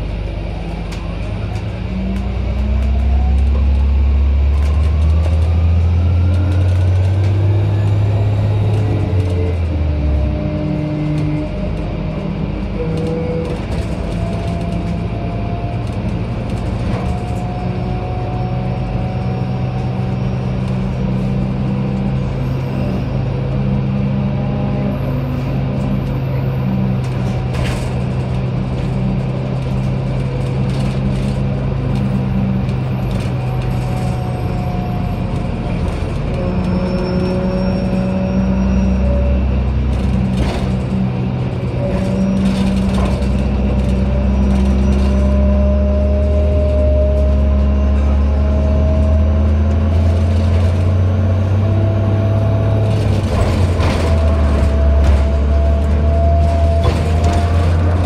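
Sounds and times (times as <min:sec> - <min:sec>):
bus engine idling hum: 0:00.0 - 0:58.0.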